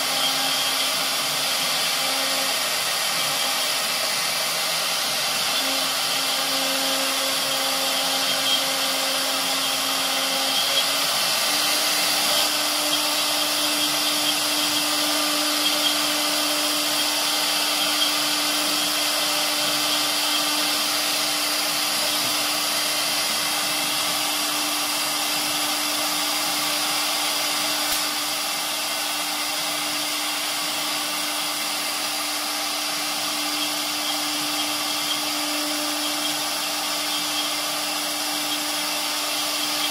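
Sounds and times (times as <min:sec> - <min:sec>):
hiss of bit cutting wood: 0:00.0 - 0:39.9
router motor whine: 0:00.0 - 0:39.9.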